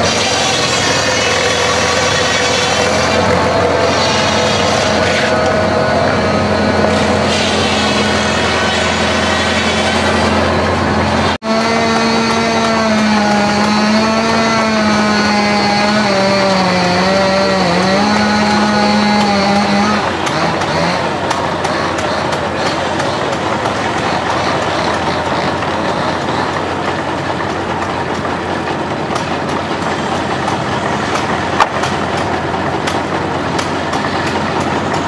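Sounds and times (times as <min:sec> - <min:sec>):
excelsior machine shaving wood: 0:00.0 - 0:35.0
flywheel log splitter droning: 0:00.0 - 0:35.0.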